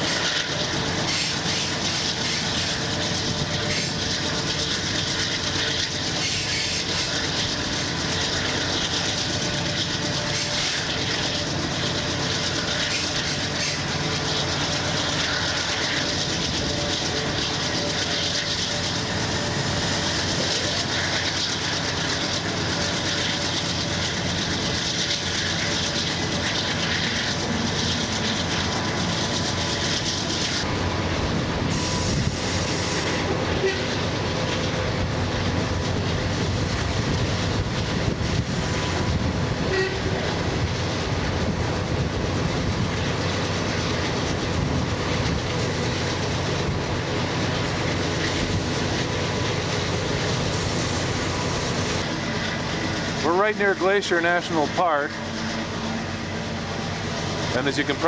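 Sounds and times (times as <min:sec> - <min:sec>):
diesel locomotives working: 0:00.0 - 0:58.0
train wheels on rails: 0:00.0 - 0:58.0.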